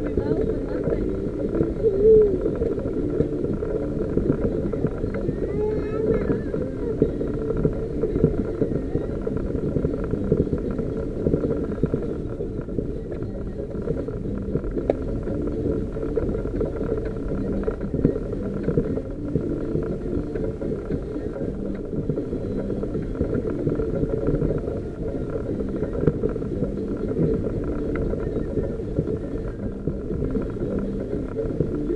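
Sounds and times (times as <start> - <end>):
engine and tyre rumble: 0.0 - 31.9.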